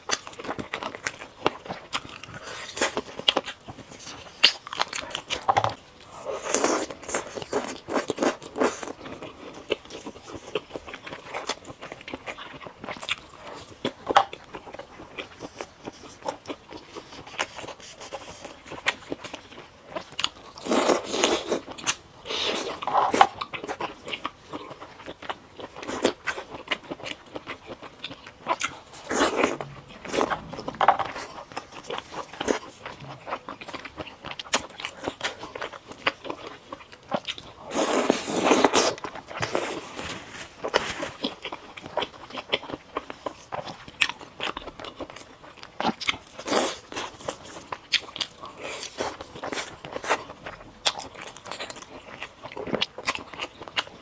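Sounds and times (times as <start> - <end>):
wet chewing: 0.0 - 40.0, 40.6 - 54.0
crisp crunching of fried food: 0.0 - 54.0.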